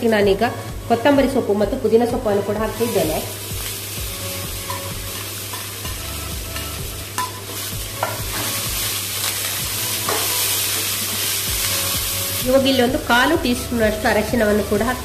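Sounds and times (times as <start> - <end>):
leaves sizzling in hot oil: 0.0 - 15.0.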